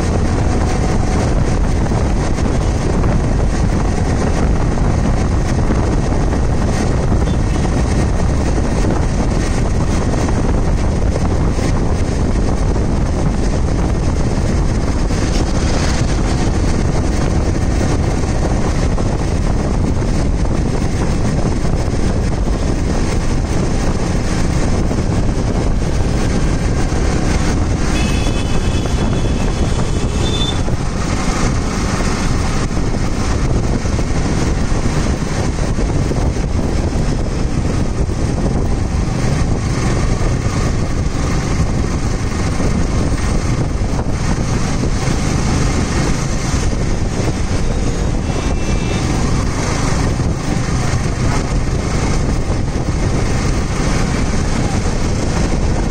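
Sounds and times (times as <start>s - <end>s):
motorcycle engine cruising: 0.0s - 55.9s
road noise: 0.0s - 55.9s
wind rumble on microphone: 0.0s - 55.9s.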